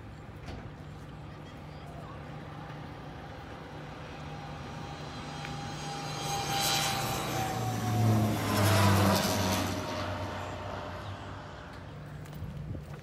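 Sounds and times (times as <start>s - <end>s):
airplane engine approaching: 0.0s - 12.8s.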